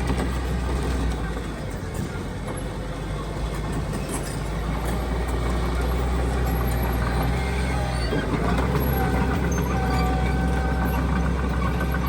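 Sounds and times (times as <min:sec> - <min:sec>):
heavy diesel engine rumble: 0:00.0 - 0:12.0.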